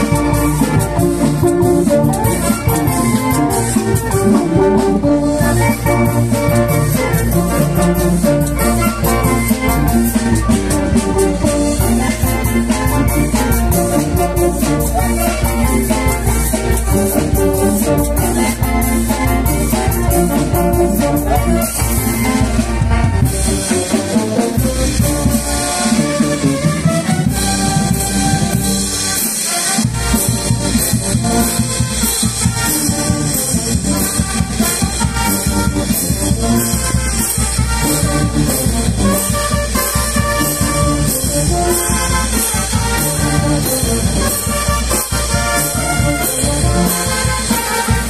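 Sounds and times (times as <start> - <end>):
brass band playing: 0.0 - 48.0
percussion steady beat: 0.0 - 48.0.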